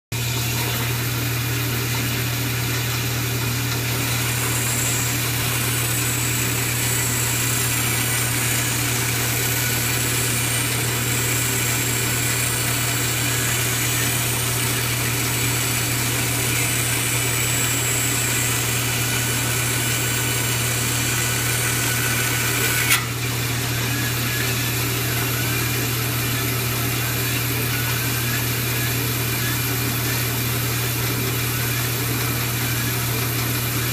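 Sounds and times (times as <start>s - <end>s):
bandsaw cutting with low hum: 0.1s - 33.9s.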